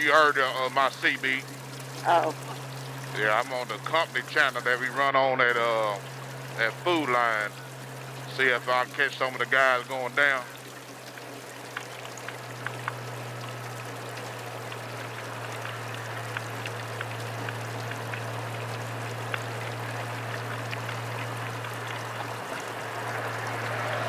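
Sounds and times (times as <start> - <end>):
motorcycle engine drone: 0.0 - 10.5, 12.3 - 24.0
rain hitting windshield and helmet: 0.0 - 24.0.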